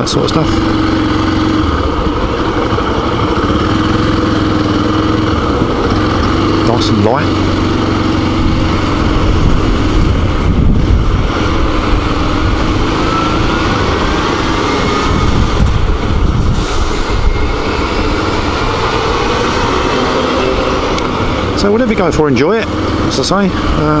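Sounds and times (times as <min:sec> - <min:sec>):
motorcycle engine: 0:00.0 - 0:24.0
wind and road noise: 0:00.0 - 0:24.0.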